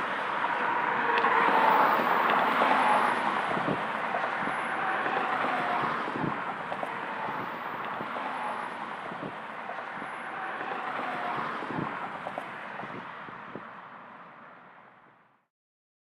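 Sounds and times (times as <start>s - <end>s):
cars passing: 0.0s - 15.5s
road traffic noise: 0.0s - 15.5s.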